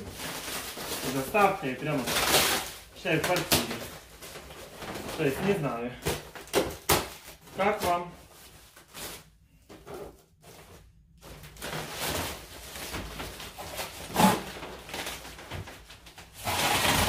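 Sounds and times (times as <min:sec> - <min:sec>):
rustling handling noises: 0:00.0 - 0:16.4.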